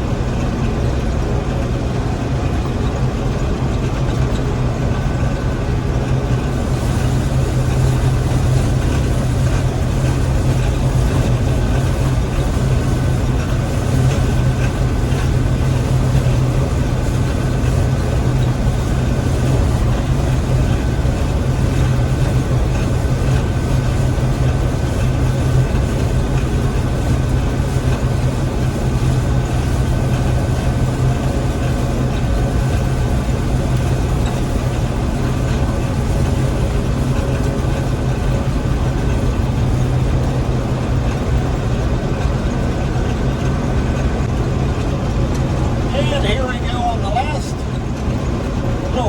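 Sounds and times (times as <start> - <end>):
combine engine drone: 0.0 - 49.0
thin steady whine: 0.0 - 49.0.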